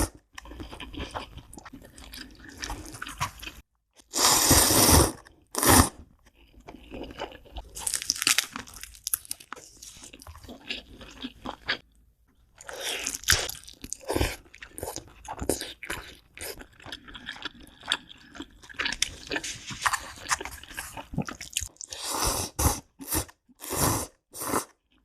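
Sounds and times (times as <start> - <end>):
crunchy snack chewing: 0.0 - 11.8, 12.6 - 22.1.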